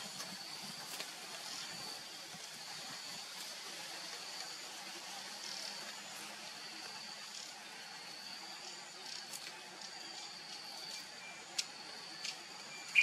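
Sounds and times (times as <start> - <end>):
high thin insect-like whine: 0.0 - 13.0
steady hiss: 0.0 - 13.0.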